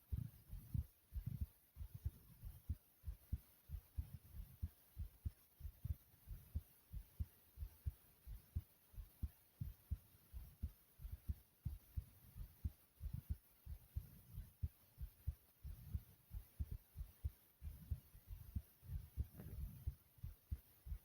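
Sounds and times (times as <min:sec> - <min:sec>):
heartbeat thumps: 0:00.0 - 0:21.0.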